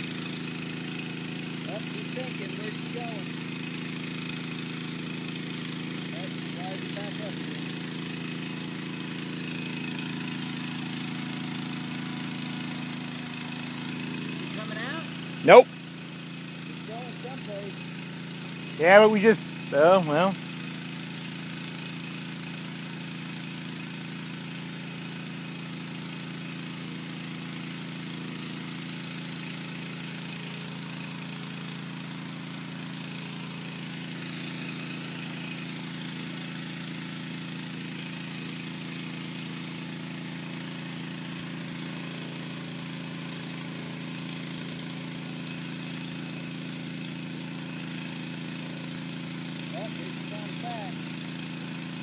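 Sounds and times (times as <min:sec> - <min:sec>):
engine humming steadily: 0:00.0 - 0:22.3, 0:28.1 - 0:52.0.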